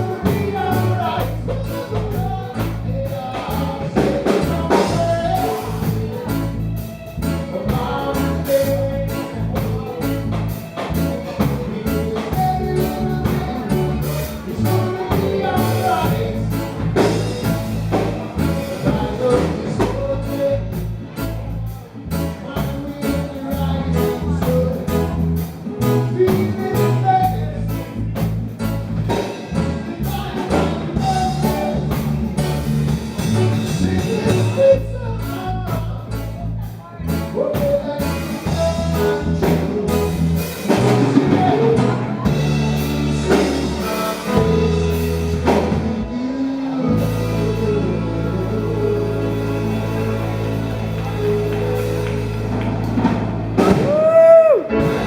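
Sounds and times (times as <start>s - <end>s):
person singing: 0.0s - 55.0s
reggae band playing: 0.0s - 55.0s.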